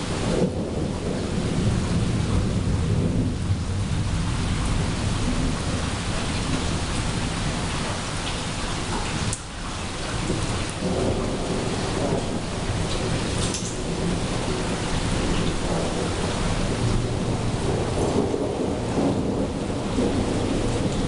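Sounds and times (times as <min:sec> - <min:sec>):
rolling thunder rumble: 0:00.0 - 0:21.0
steady rain hiss: 0:00.0 - 0:21.0.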